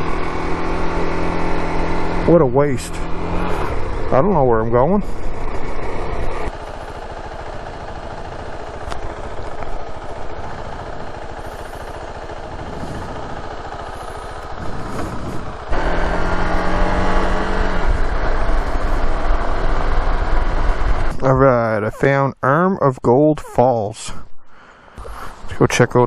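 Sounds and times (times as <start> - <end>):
wind and road noise: 0.0 - 21.4
motorcycle engine: 0.0 - 21.8.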